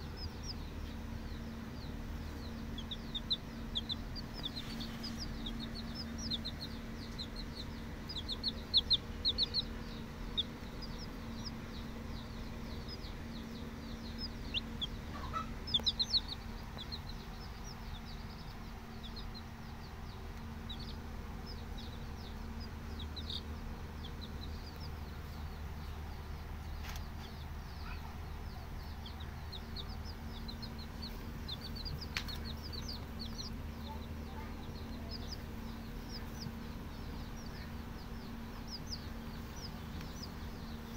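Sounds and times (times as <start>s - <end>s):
chicks peeping: 0.0s - 40.9s
steady low hum: 0.0s - 40.9s.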